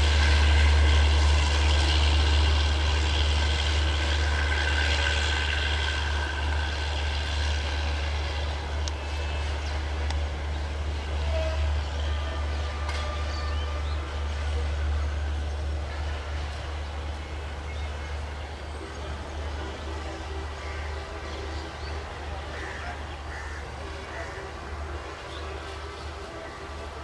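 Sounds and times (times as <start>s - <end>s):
diesel train pulling away: 0.0s - 27.0s.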